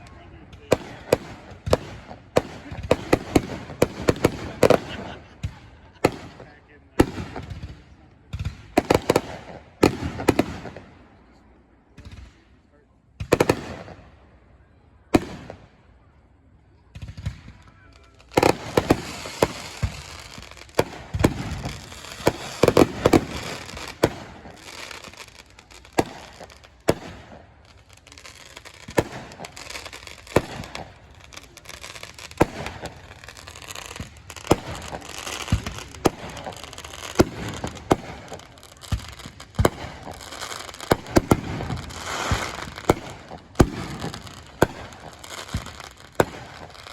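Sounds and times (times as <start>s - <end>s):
firework bangs: 0.0s - 11.0s, 13.2s - 14.1s, 15.1s - 15.6s, 16.8s - 46.9s
fireworks crackling and popping: 0.0s - 14.2s, 15.0s - 16.1s, 16.8s - 46.9s.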